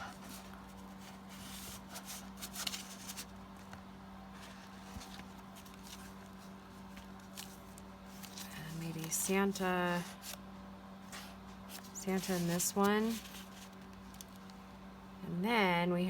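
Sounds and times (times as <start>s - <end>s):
paper rustling: 0.0s - 10.4s, 11.1s - 14.6s
steady low hum: 0.0s - 16.0s.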